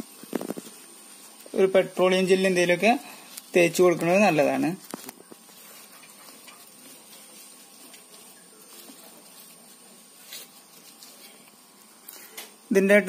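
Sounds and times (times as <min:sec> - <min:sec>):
cloth rubbing on metal: 0:00.0 - 0:12.0.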